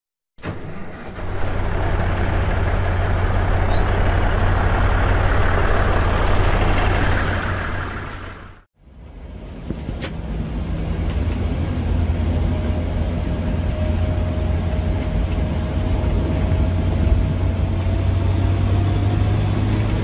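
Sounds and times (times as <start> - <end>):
road noise: 0.4 - 20.0
vehicle engine hum: 0.4 - 20.0.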